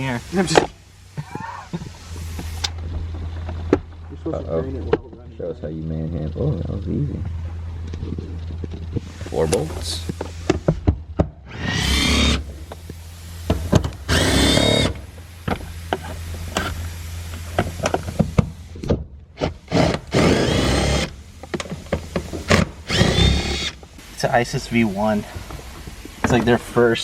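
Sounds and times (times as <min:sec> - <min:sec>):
power tool whirring: 0:00.0 - 0:03.9, 0:07.3 - 0:27.0.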